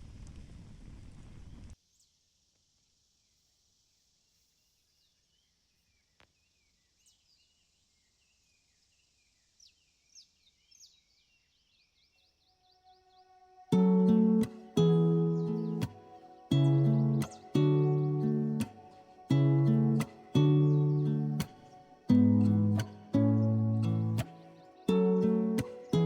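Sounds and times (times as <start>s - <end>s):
faint bird chirps: 4.5s - 26.0s.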